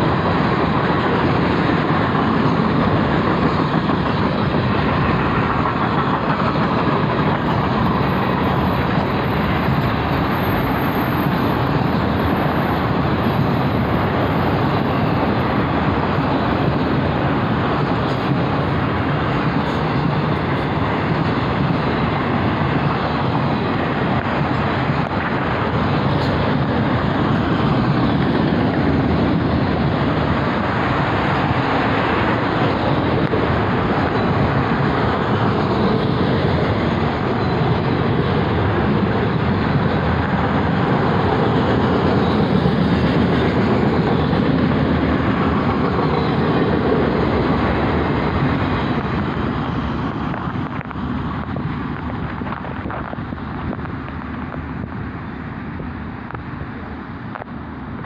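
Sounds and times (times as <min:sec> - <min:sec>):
freight train wheels rumbling on track: 0:00.0 - 0:58.0.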